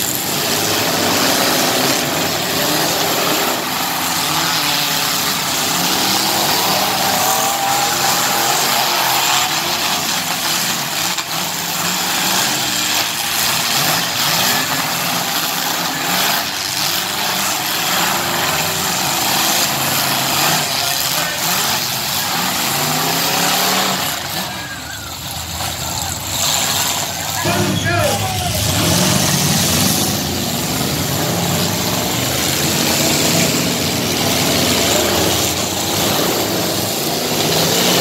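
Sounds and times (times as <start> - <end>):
engines revving hard: 0.0 - 38.0.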